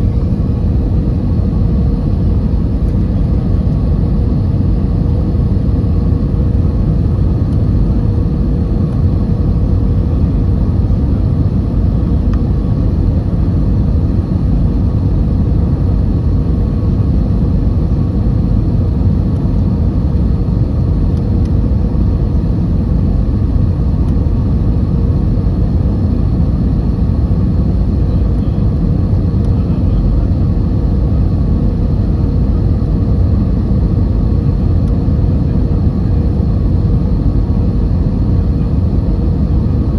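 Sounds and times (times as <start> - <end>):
aircraft engine rumble in cabin: 0.0 - 39.9
faint constant hum: 0.0 - 39.9.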